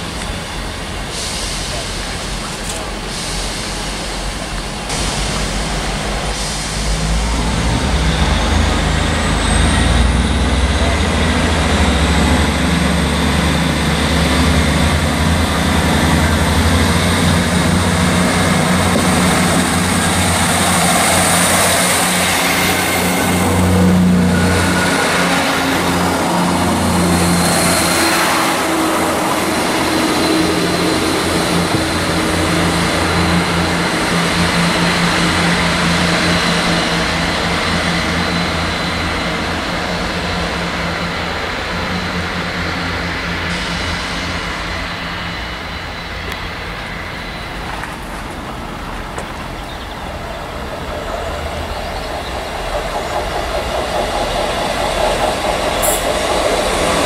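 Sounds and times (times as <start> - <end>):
diesel train engines running: 0.0 - 57.0
train wheel and rail noise: 0.0 - 57.0.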